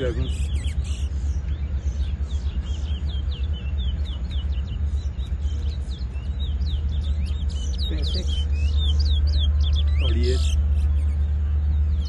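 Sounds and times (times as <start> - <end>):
finches chirping: 0.0 - 12.0
low rumble: 0.0 - 12.0.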